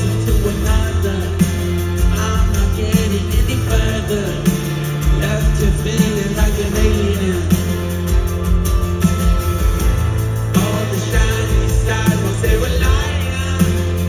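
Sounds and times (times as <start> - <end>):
bass line: 0.0 - 14.0
electric guitars: 0.0 - 14.0.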